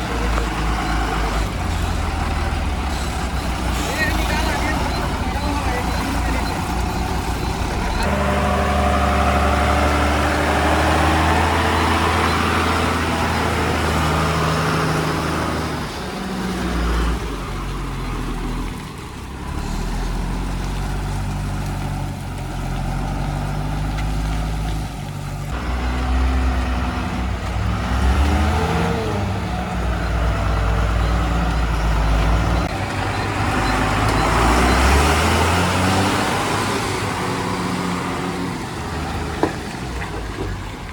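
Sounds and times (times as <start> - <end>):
heavy diesel engines under load: 0.0 - 40.9.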